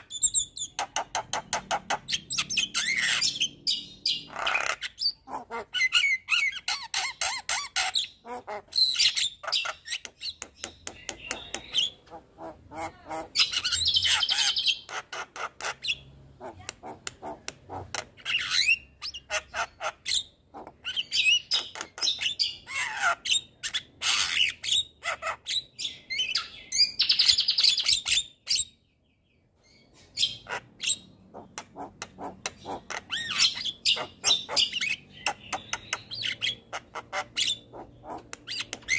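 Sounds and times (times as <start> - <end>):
myna bird singing: 0.0 - 38.9.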